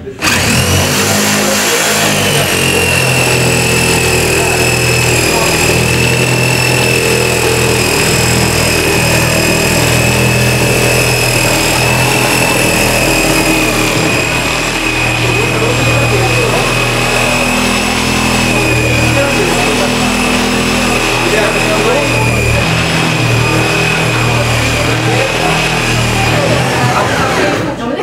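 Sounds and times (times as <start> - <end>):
power tool motor whine: 0.0 - 27.7.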